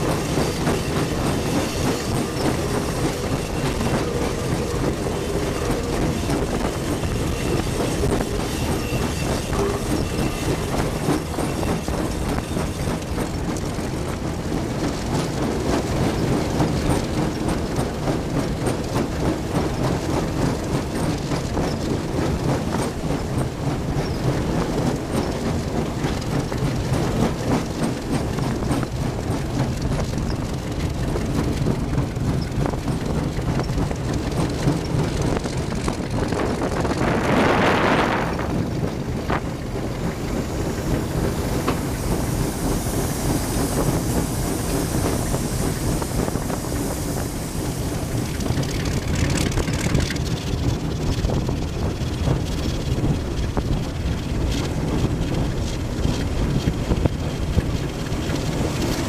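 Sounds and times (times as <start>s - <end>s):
diesel locomotive engine drone: 0.0s - 59.0s
wheels clattering over rails: 0.0s - 59.0s.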